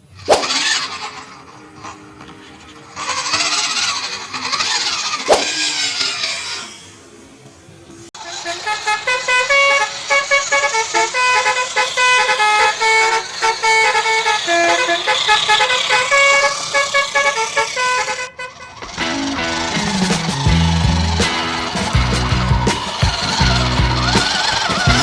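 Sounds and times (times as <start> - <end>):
musical vehicle horn tune: 0.5 - 5.6, 8.2 - 25.0.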